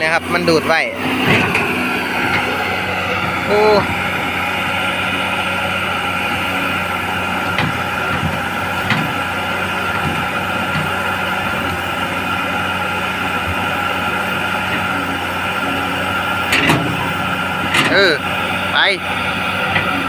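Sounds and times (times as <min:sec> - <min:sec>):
excavator diesel engine under load: 0:00.0 - 0:20.0.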